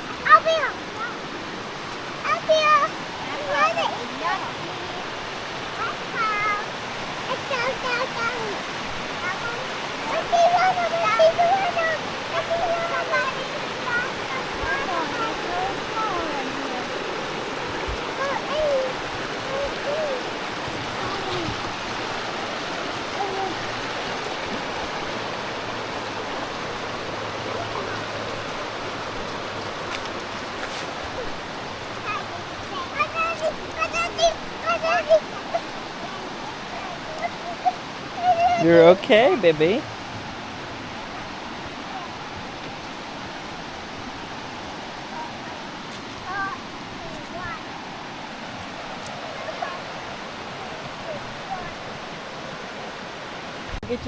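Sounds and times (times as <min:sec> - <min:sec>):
creek water flowing: 0:00.0 - 0:54.0.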